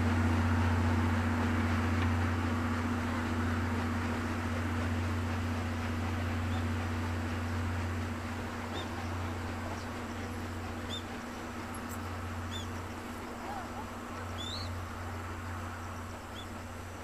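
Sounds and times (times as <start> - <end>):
steam train rumbling: 0.0 - 17.0.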